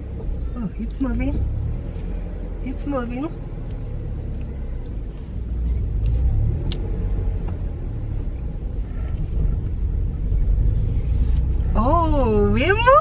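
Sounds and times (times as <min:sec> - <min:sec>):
car engine rumbling low: 0:00.0 - 0:13.0.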